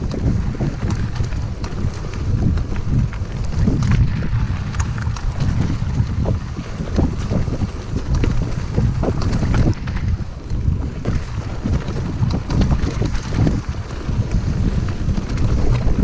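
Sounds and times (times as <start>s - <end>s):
bike clicks and rattles: 0.0s - 16.0s
mountain bike rolling on dirt: 0.0s - 16.0s
wind buffeting microphone: 0.0s - 16.0s.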